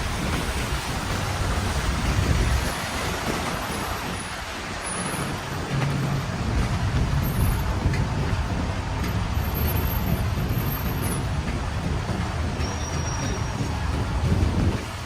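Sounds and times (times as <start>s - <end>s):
heavy rain on street: 0.0s - 15.0s
road traffic rumble: 0.0s - 15.0s.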